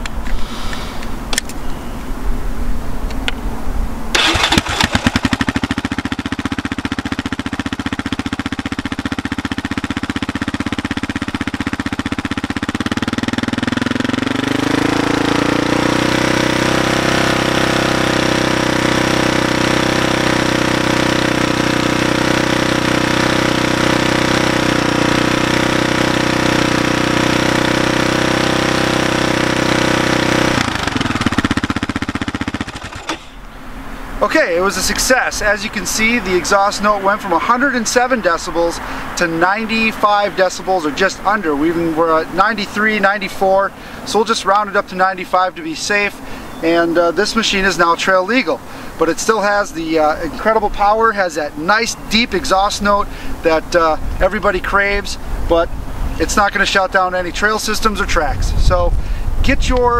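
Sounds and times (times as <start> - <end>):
atv engine exhaust: 0.0 - 59.9.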